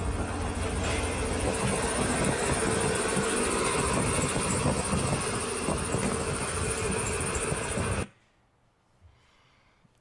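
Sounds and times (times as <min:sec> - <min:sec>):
road traffic noise inside car: 0:00.0 - 0:08.2.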